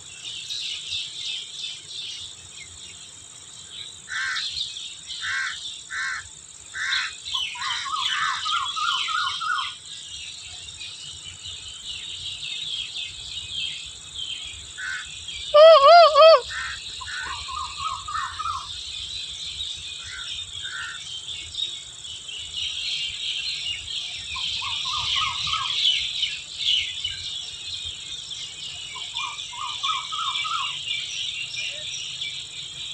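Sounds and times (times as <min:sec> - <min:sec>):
birds chirping: 0:00.0 - 0:32.9
insects buzzing: 0:00.0 - 0:32.9.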